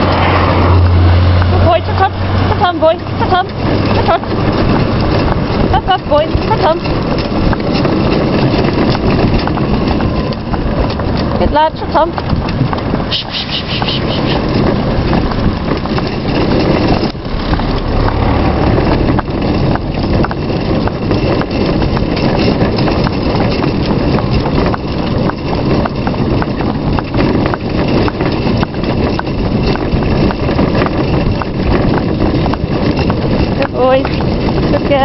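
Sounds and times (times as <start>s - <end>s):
cart wheels rolling: 0.0s - 35.0s
donkey hooves clip-clopping on tarmac: 0.0s - 35.0s.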